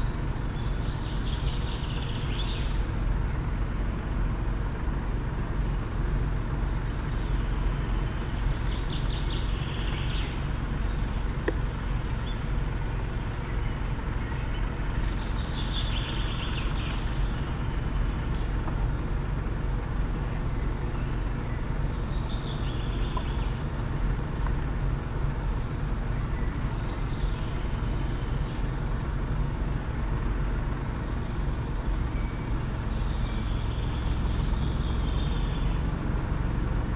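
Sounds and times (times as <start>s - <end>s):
low microphone rumble: 0.0s - 36.9s
songbird singing: 0.0s - 36.9s.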